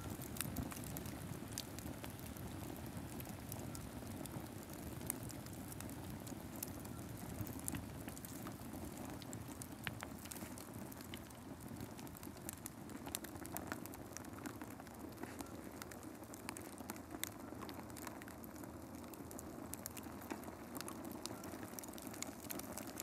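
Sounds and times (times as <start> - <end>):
light crackles and ticks: 0.0 - 23.0.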